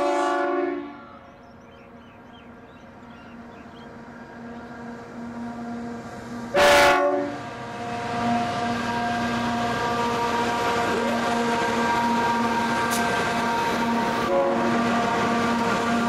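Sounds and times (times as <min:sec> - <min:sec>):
train horn blast: 0:00.0 - 0:01.3, 0:04.3 - 0:16.0
diesel locomotive engines running: 0:00.0 - 0:16.0.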